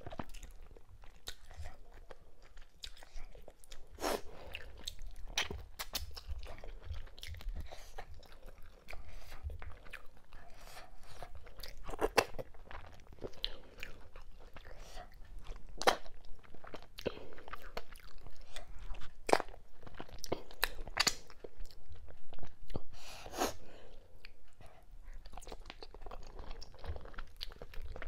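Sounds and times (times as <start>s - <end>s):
person chewing crunchy food: 0.0s - 28.0s.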